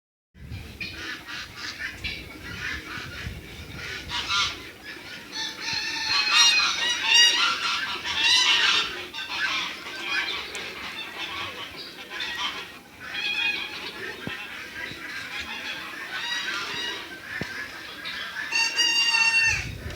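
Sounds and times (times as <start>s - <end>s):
poultry honking and squawking: 0.8s - 19.9s.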